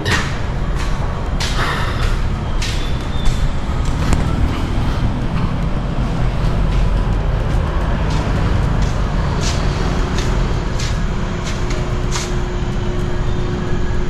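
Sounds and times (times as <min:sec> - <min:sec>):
passing road traffic rumble: 0:00.0 - 0:14.0.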